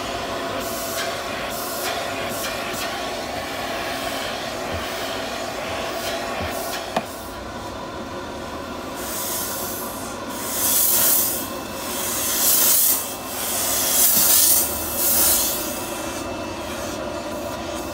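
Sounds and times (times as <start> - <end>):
steam cleaner hissing bursts: 0.0 - 7.4, 8.9 - 17.9.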